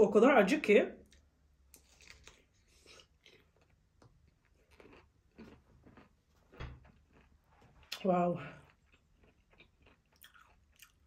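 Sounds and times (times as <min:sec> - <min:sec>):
person chewing: 0:01.0 - 0:11.0.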